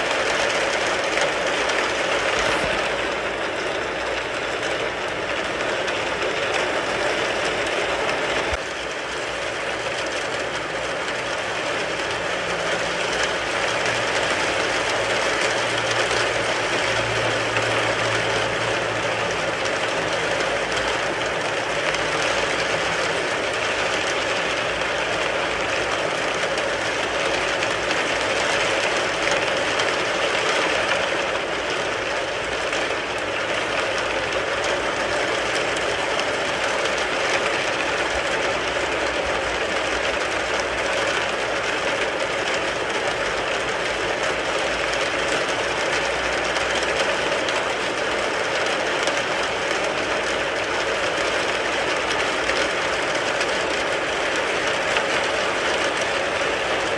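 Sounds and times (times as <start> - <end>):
rain pattering on car roof: 0.0 - 56.9.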